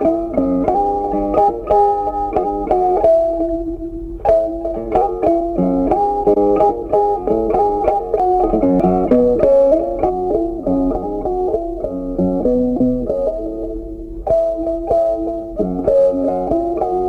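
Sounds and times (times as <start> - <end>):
plucked guitar tune with bass: 0.0 - 17.0.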